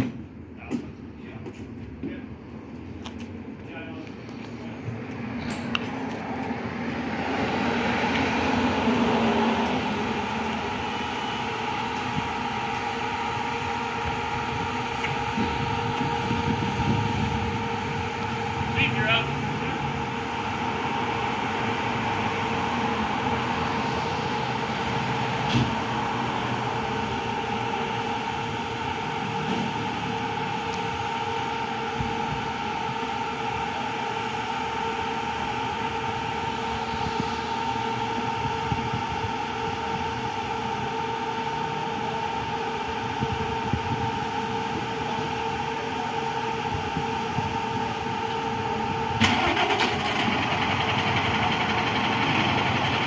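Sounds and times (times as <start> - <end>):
vehicle engine idling: 4.2 - 43.0, 47.8 - 53.0.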